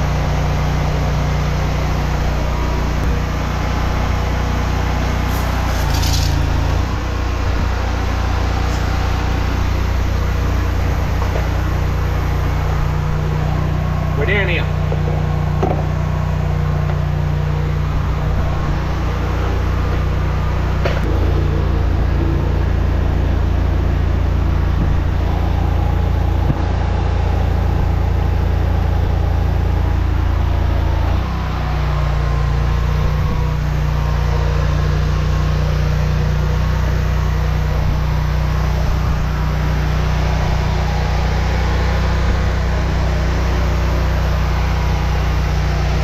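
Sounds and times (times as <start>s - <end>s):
drain jetter engine running: 0.0s - 46.0s.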